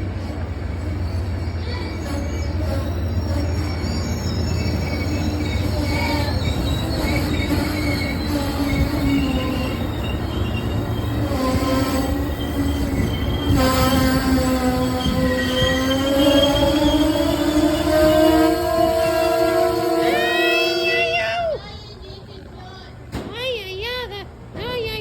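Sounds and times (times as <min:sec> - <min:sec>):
train wheels squealing: 0:00.0 - 0:21.6
moving train rumble: 0:00.0 - 0:25.0.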